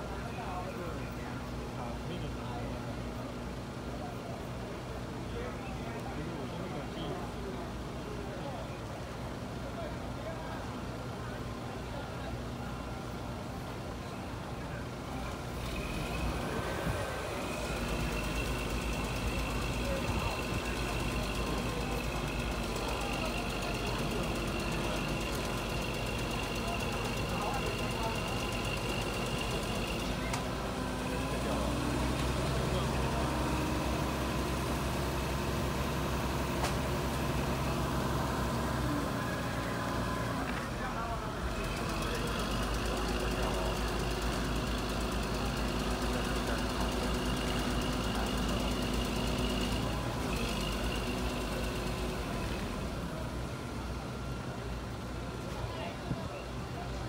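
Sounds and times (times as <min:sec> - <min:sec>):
heavy machinery engine rumbling: 0:00.0 - 0:57.0.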